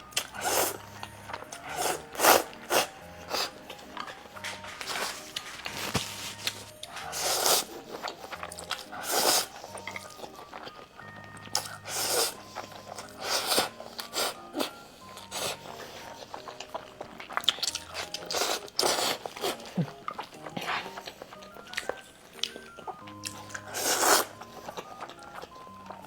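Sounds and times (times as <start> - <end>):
soft background music: 0.0 - 26.0
wet chewing and mouth clicks: 0.0 - 26.0.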